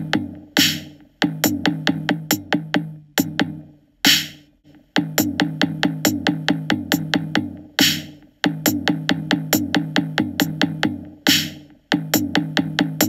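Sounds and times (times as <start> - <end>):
drum machine beat: 0.0 - 13.0.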